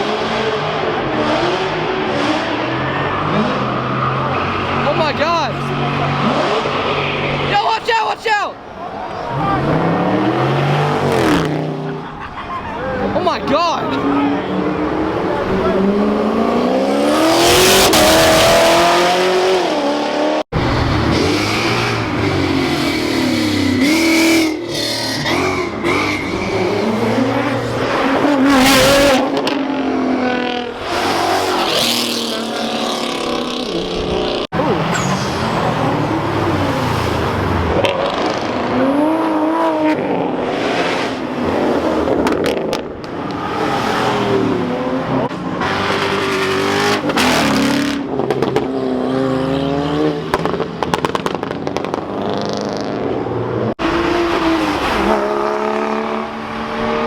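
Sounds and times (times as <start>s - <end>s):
performance car engines revving: 0.0s - 7.6s, 8.6s - 57.0s
cars rushing past: 0.0s - 57.0s.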